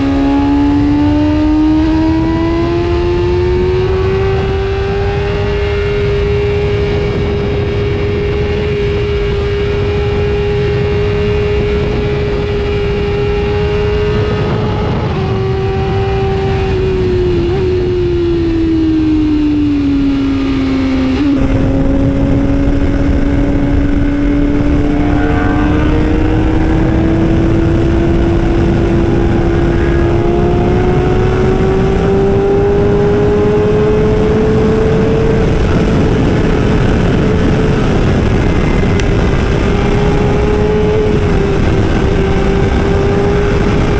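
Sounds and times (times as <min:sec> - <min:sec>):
heavy wind: 0:00.0 - 0:43.9
road rumble: 0:00.0 - 0:43.9.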